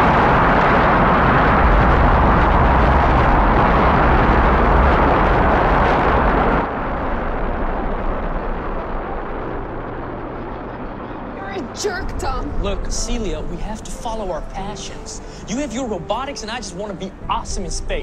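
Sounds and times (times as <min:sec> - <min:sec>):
rocket engines roaring: 0:00.0 - 0:18.0.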